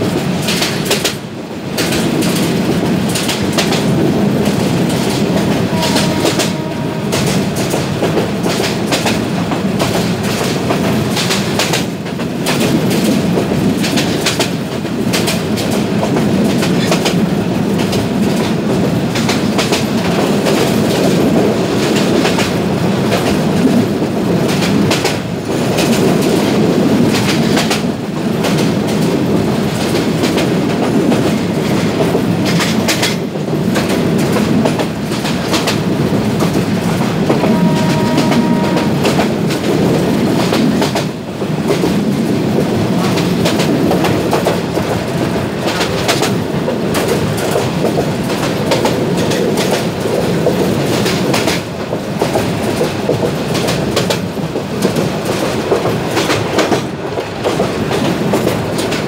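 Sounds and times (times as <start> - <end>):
wheels clickety-clack: 0.0 - 59.0.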